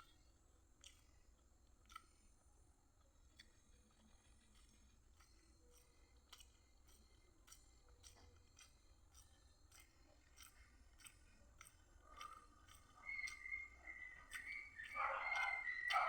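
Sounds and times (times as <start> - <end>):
faint chewing: 0.0 - 16.0.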